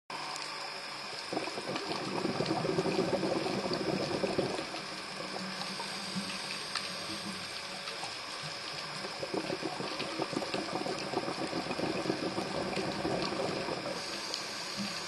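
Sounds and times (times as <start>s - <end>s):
underwater bubbling rush: 1.0s - 15.0s
underwater hiss: 1.2s - 15.0s.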